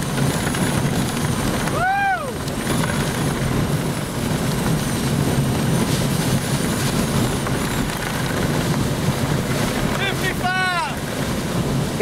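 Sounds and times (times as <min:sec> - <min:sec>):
high wind whistle: 0:00.0 - 0:12.0
wind roaring on microphone: 0:00.0 - 0:12.0.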